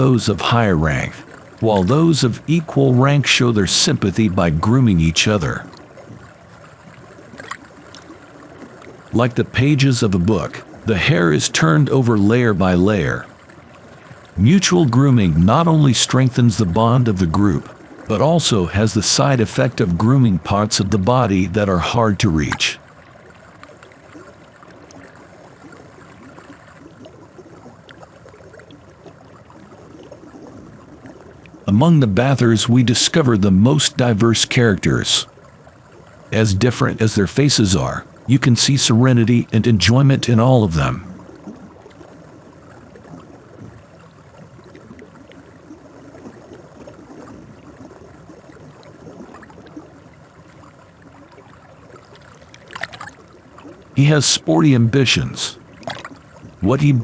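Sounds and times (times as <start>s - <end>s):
small water splashes: 0.0s - 57.0s
water running and lapping: 0.0s - 57.0s.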